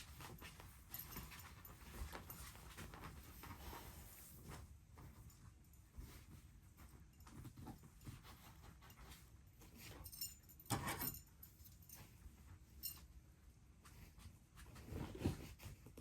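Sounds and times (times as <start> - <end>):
puppies scuffling: 0.0 - 13.1
puppies rustling and clicking: 0.0 - 16.0.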